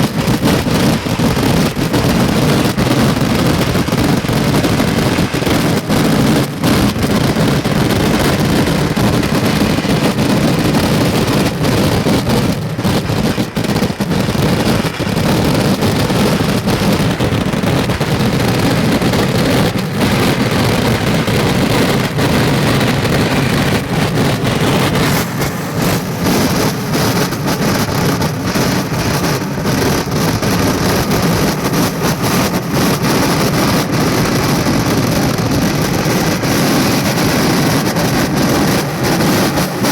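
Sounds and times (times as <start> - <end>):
firecracker explosions: 0.0 - 39.9.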